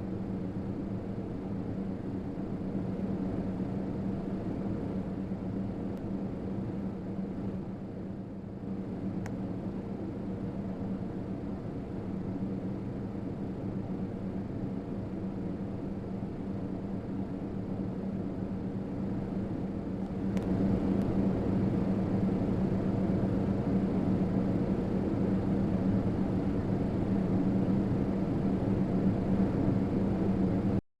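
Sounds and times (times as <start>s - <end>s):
ceiling fan running: 0.0s - 30.8s.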